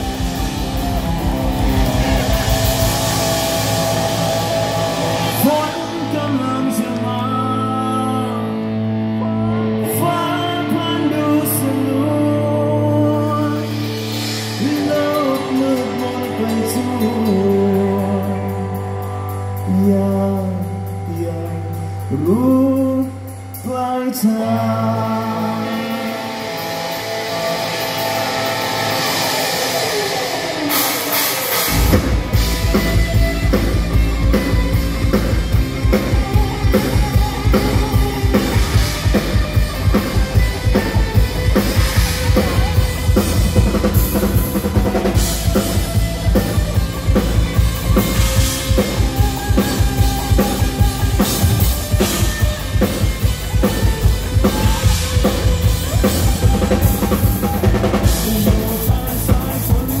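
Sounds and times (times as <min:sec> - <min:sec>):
rock band instrumental: 0:00.0 - 1:00.0.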